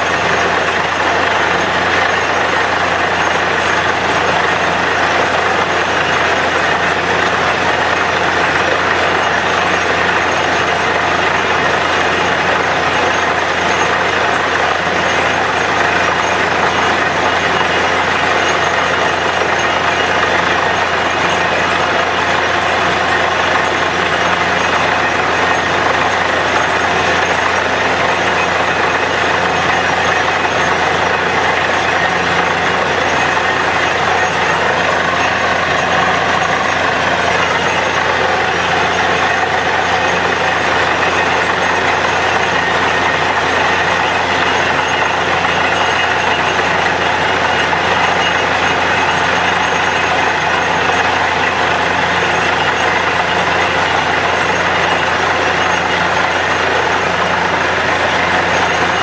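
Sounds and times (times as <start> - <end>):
drilling rig engine and compressor drone: 0.0 - 59.0.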